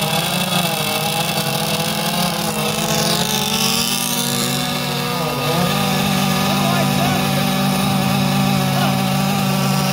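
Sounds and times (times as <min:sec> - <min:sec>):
high engine whine: 0:00.0 - 0:09.9
small two-stroke boat engines running: 0:00.0 - 0:09.9.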